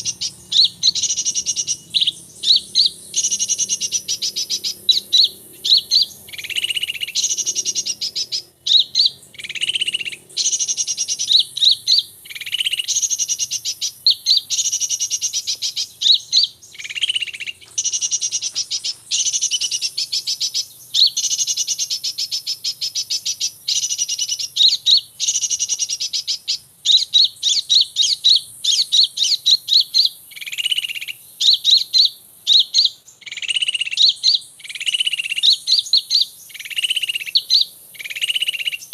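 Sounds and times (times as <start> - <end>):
small birds chirping and trilling: 0.0 - 38.9.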